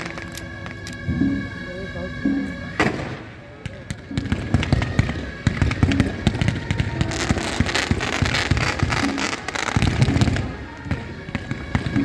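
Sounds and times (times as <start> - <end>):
fireworks banging and crackling: 0.0 - 12.0.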